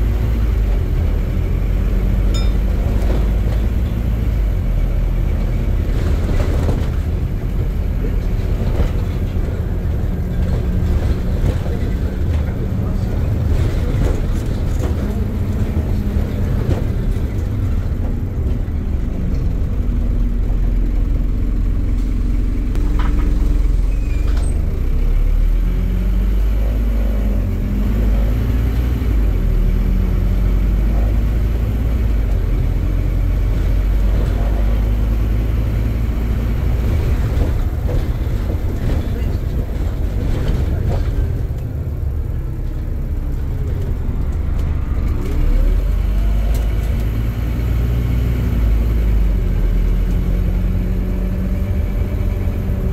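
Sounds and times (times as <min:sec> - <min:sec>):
bus engine rumble: 0:00.0 - 0:52.9.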